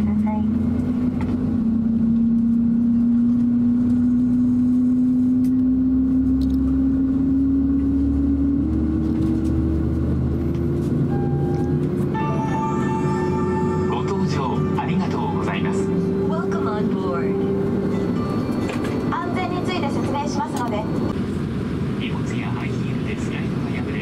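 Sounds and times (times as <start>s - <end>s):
aircraft cabin engine drone: 0.0s - 24.0s.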